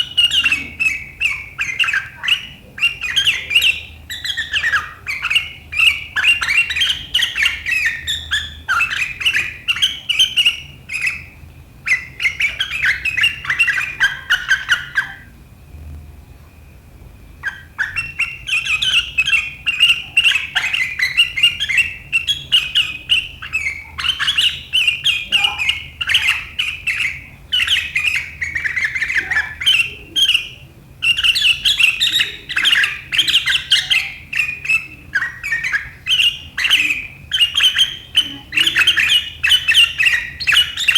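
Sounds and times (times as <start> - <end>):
bulbul singing in rapid runs: 0.0 - 15.4, 17.4 - 40.9.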